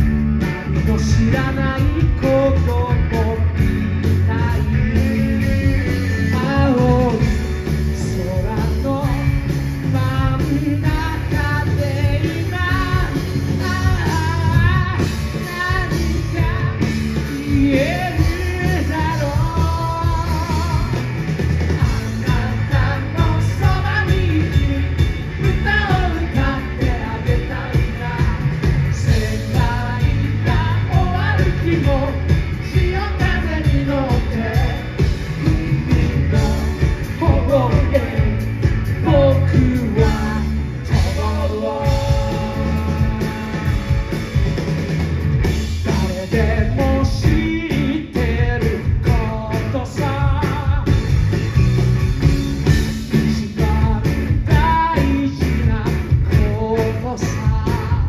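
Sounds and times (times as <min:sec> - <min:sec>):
man singing: 0:00.0 - 0:44.4, 0:45.8 - 0:51.2, 0:52.9 - 0:58.0
bass guitar: 0:00.0 - 0:58.0
drums: 0:00.0 - 0:58.0
electric guitar: 0:00.0 - 0:58.0.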